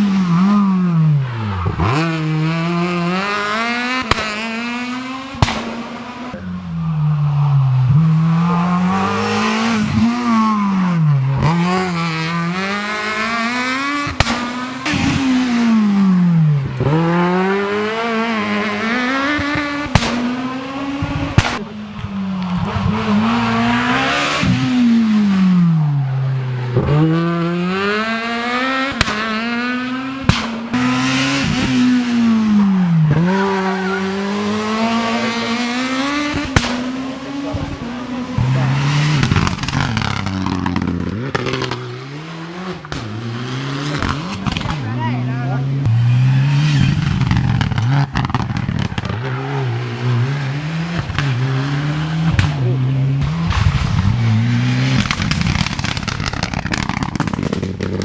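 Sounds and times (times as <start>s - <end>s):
rally car engine accelerating: 0.0s - 58.0s.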